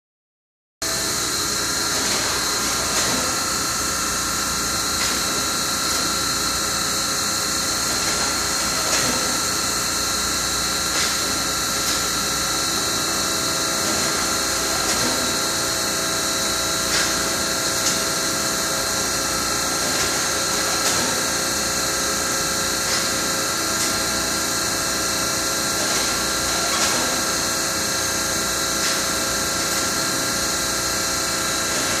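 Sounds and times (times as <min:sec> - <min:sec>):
machine hum and hiss: 0:00.8 - 0:32.0
steady machine whine: 0:00.8 - 0:32.0.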